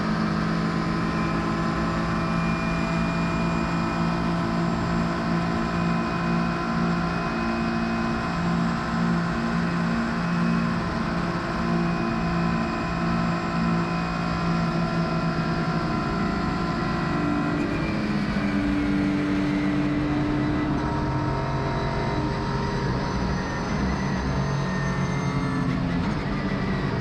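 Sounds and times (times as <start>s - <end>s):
race car engine at high revs: 0.0s - 27.0s.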